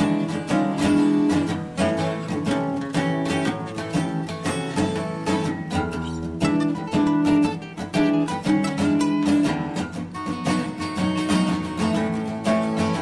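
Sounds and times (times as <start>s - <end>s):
acoustic guitar blues: 0.0s - 13.0s.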